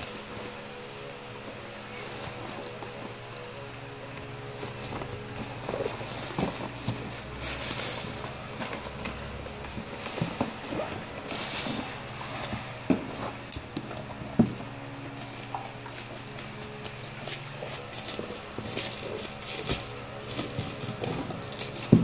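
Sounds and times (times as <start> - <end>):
bubble wrap crinkling: 0.0 - 22.0.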